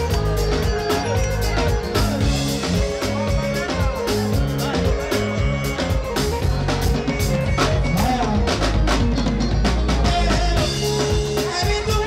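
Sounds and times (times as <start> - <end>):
drum kit beat: 0.0 - 12.0
electric bass guitar: 0.0 - 12.0.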